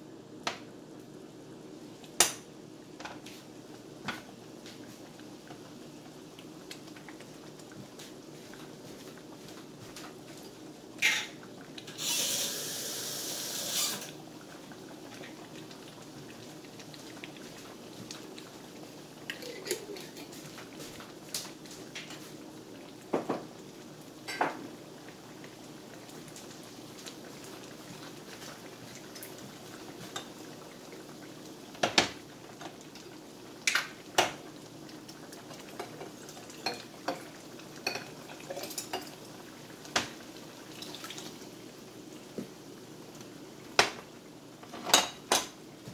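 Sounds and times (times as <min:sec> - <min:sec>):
sauce bubbling and hissing: 0:00.7 - 0:44.7.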